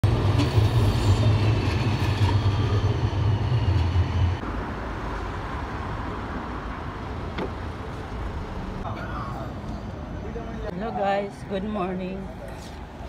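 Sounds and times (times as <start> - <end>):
tram rumbling with high whine: 0.0 - 10.6
street background: 0.0 - 13.0.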